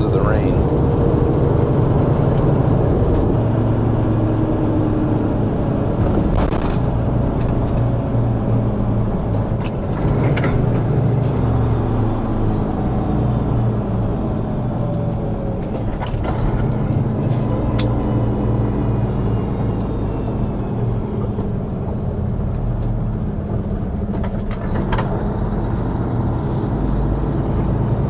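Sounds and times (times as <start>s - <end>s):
diesel truck engine running: 0.0s - 28.0s
road noise: 0.0s - 28.0s.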